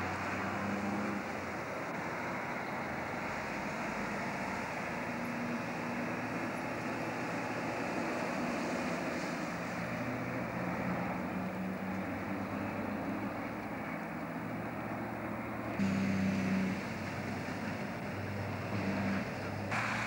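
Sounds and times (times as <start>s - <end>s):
road noise: 0.0s - 20.0s
truck diesel engine running: 0.0s - 20.0s.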